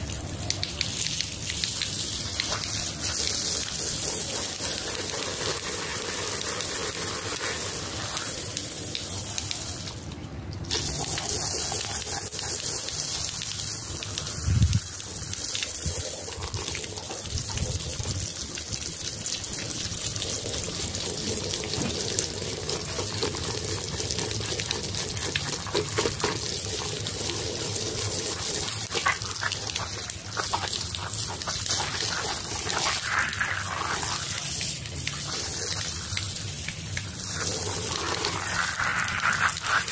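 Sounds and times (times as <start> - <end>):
water jet spraying on wet rug: 0.0 - 39.9.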